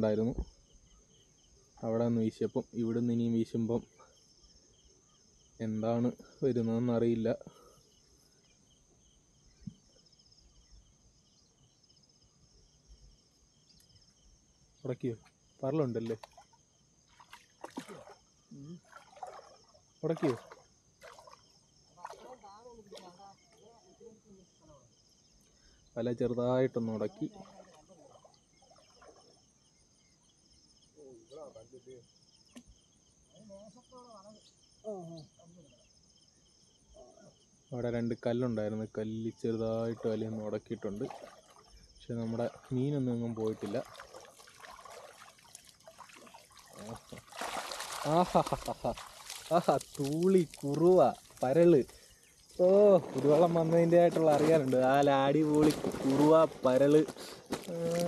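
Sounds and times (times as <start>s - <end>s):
insects chirping in trills: 0.0s - 58.0s.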